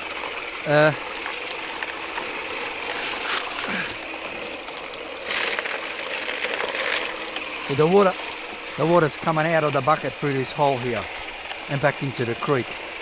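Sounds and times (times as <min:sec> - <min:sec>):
gravel rattling in spinning sieve: 0:00.0 - 0:13.0
water running: 0:00.0 - 0:13.0.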